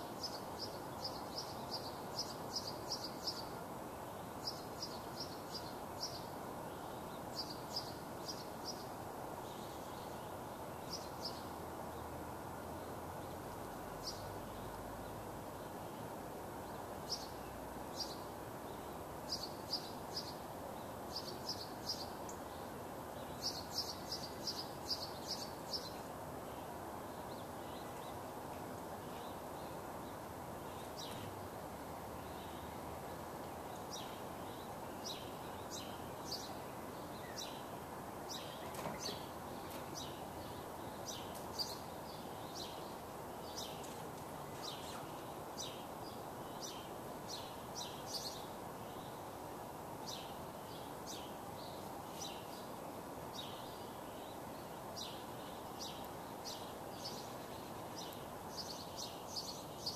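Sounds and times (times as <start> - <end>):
outdoor ambient hiss: 0.0 - 59.9
small birds chirping: 0.0 - 59.9.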